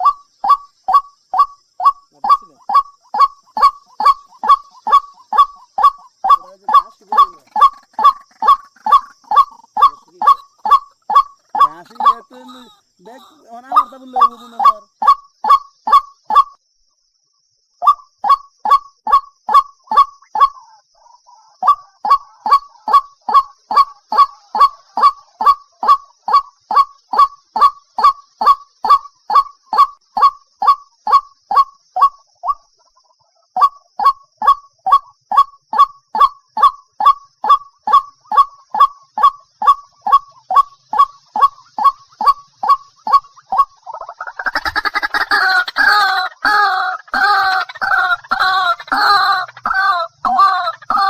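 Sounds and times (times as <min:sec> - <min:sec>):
waterhen calling: 0:00.0 - 0:16.6, 0:17.8 - 0:51.0.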